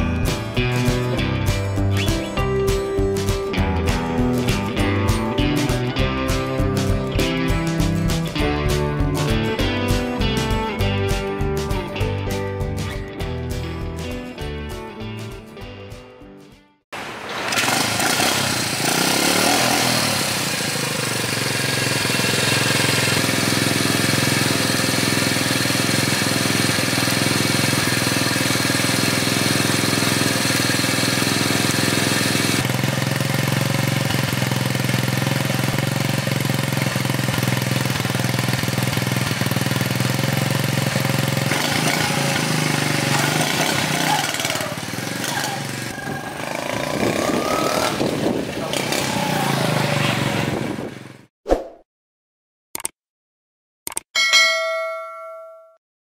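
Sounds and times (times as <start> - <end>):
moped engine idling and revving: 0.0 - 11.6, 17.3 - 51.3.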